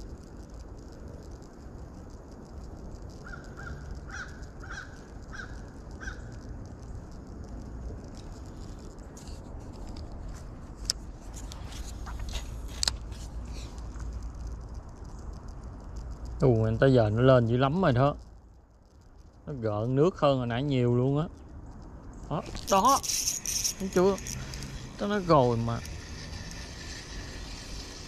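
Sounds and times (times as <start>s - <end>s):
sharp clicks and ticks: 0.0s - 28.0s.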